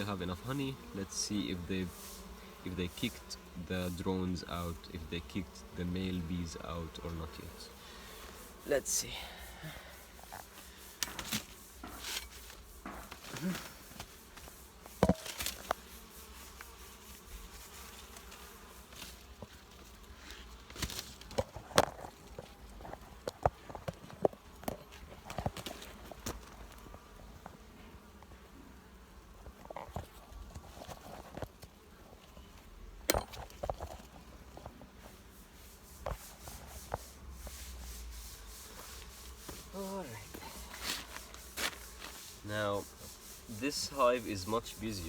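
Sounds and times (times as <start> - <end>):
bees buzzing: 0.0 - 33.2, 34.0 - 45.0.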